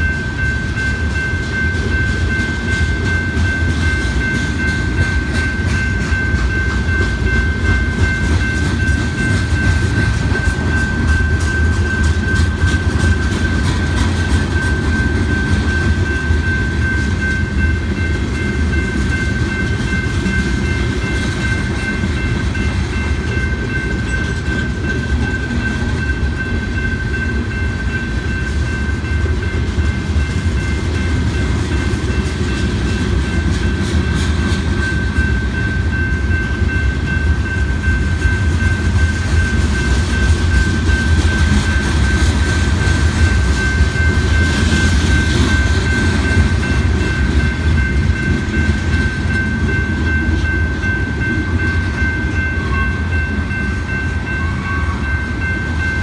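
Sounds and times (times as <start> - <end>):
freight train rumbling past: 0.0 - 56.0
high ringing tone: 0.0 - 56.0.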